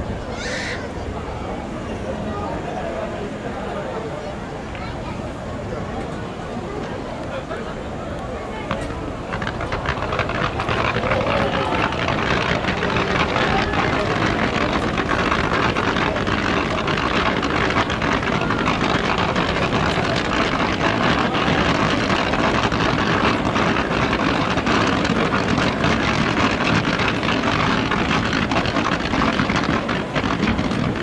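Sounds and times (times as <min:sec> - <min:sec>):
fireworks barrage rumbling: 0:00.0 - 0:31.0.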